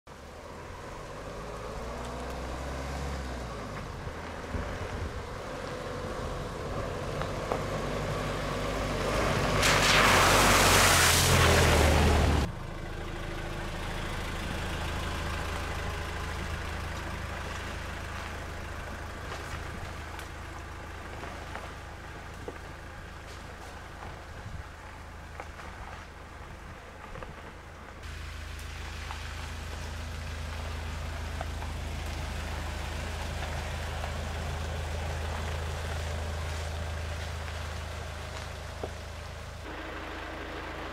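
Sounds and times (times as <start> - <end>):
tyres on dirt track: 0.0 - 40.9
diesel engine running: 0.1 - 40.9
tyres splashing through puddle: 0.2 - 12.6, 13.4 - 40.9.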